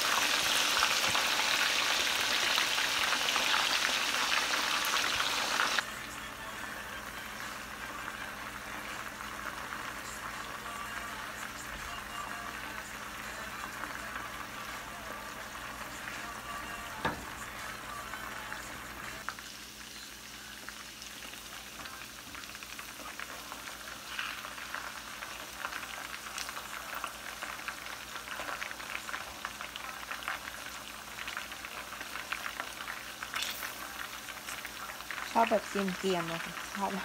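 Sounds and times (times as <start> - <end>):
meat sizzling in hot oil: 0.0 - 5.8, 7.6 - 37.0.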